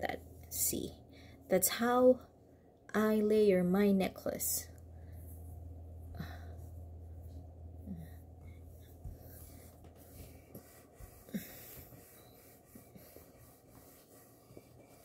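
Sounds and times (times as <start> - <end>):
low hum: 0.0 - 13.2.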